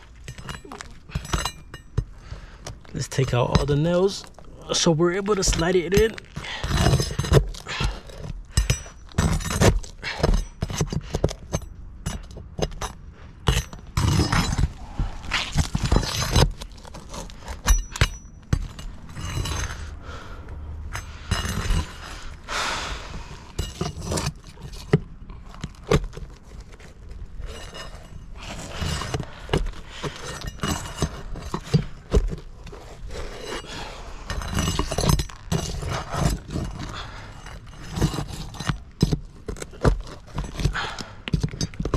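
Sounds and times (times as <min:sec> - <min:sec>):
roofing nails pried from shingles: 0:00.0 - 0:20.3, 0:21.0 - 0:41.9.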